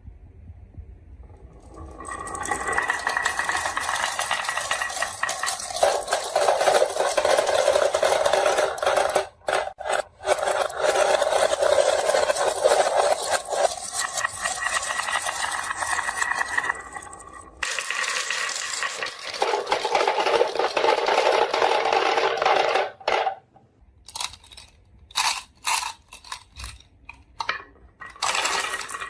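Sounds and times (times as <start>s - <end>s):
marbles rattling down a track: 1.4s - 23.3s, 27.4s - 29.0s.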